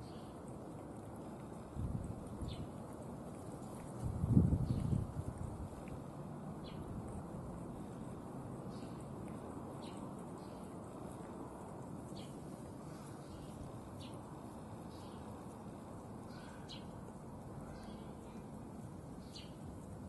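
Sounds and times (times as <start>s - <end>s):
low background hiss: 0.0s - 20.0s
small birds chirping: 0.0s - 20.0s.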